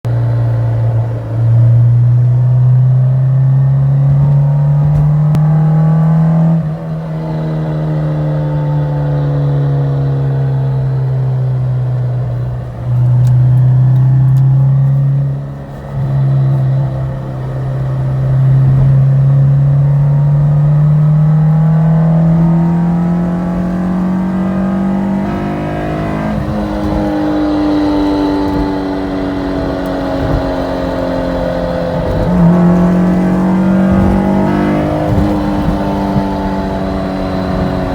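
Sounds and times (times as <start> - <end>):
car engine drone: 0.0 - 37.9.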